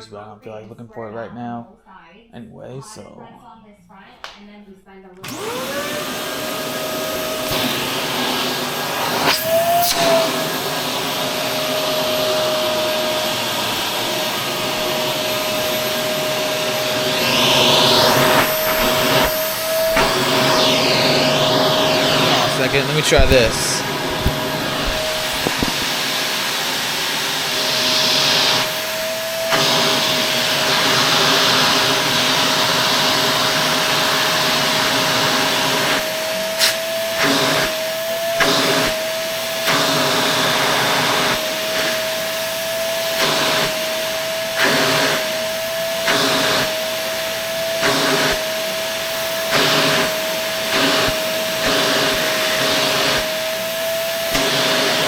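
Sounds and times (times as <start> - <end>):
vacuum cleaner running: 4.9 - 55.0.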